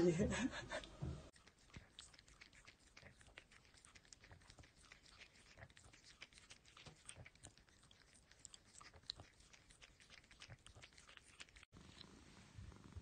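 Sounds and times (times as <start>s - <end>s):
kitten chewing: 0.8s - 13.0s.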